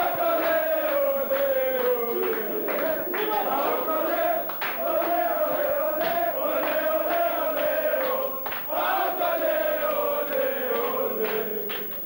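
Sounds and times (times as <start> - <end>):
group singing a chant: 0.0 - 12.0
sharp claps: 0.0 - 12.0.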